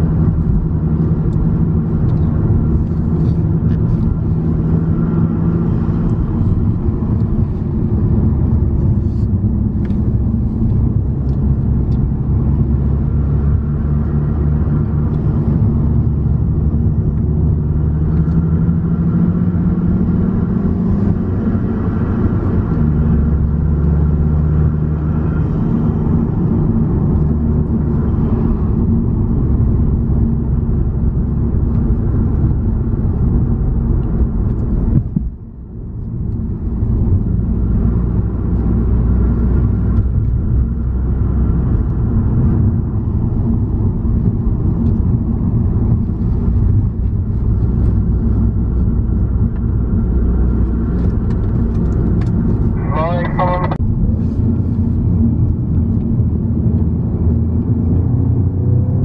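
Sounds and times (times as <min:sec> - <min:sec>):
car engine from inside: 0:00.0 - 0:59.0
road noise: 0:00.0 - 0:59.0.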